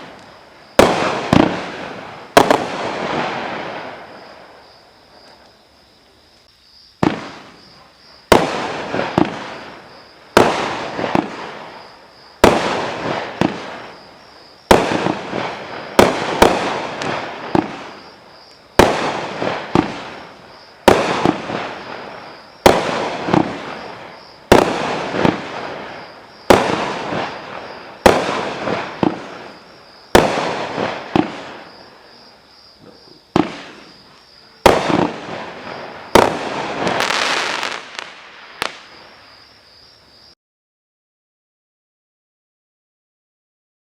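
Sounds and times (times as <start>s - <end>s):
fireworks bangs: 0.0s - 5.5s, 7.0s - 39.5s.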